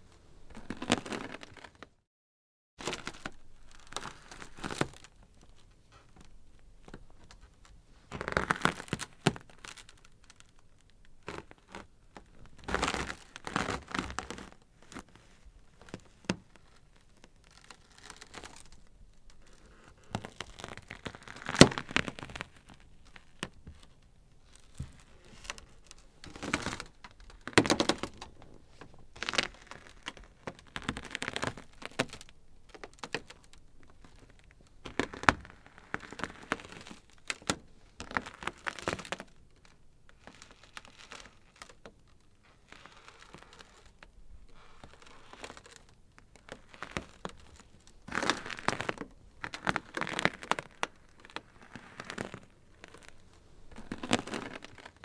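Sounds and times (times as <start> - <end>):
ice crackling and popping: 2.8 - 15.1, 15.8 - 55.0.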